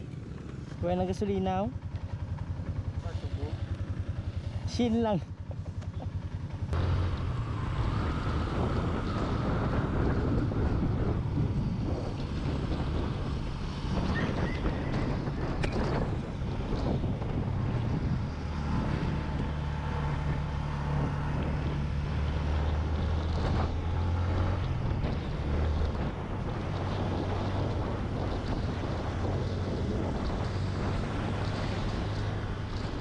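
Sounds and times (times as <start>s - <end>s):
motorcycle engine cruising: 0.0s - 33.0s
wind rushing over microphone: 6.1s - 33.0s.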